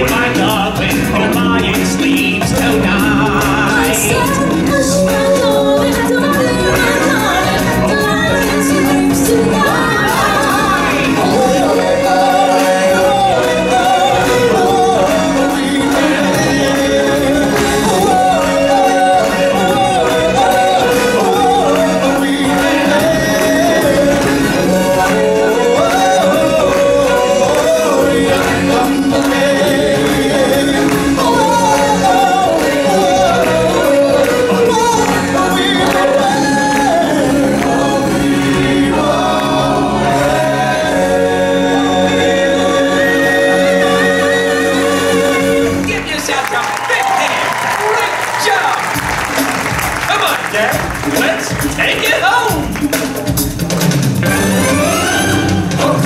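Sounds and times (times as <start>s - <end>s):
group of singers: 0.0s - 46.5s, 54.2s - 56.0s.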